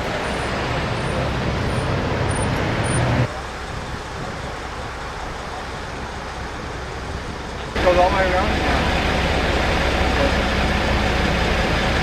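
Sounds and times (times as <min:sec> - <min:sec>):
low engine hum: 0:00.0 - 0:12.0
road traffic rumble: 0:00.0 - 0:12.0.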